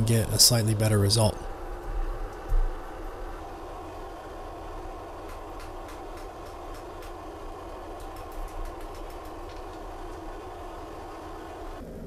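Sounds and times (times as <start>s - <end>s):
forge roaring: 0.0s - 12.0s.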